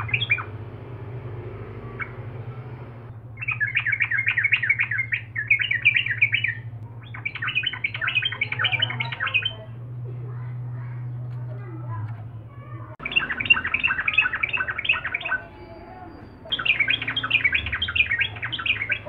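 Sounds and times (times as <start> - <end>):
bird singing chirpy notes: 0.0 - 9.8, 13.0 - 19.0.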